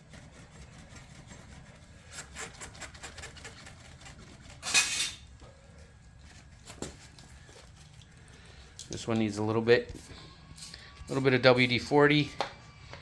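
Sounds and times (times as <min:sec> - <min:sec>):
faint metal scraping: 0:00.0 - 0:12.3.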